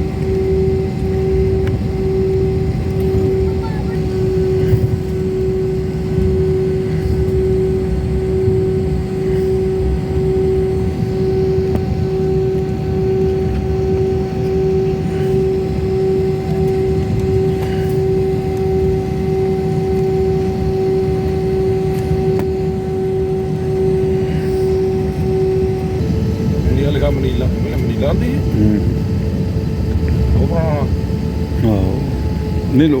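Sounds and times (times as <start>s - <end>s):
jet engine cabin drone: 0.0s - 33.0s.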